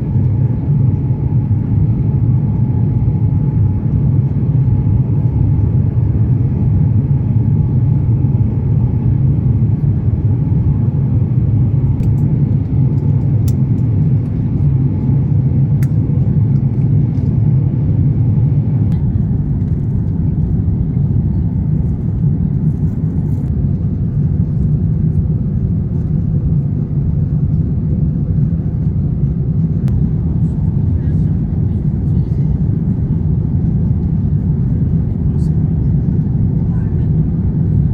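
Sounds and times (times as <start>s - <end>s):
airliner cabin engine rumble: 0.0s - 37.9s.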